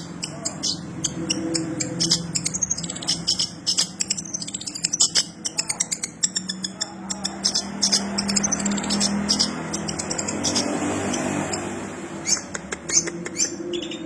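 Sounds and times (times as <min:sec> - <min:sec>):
bird singing high chirps: 0:00.0 - 0:14.0.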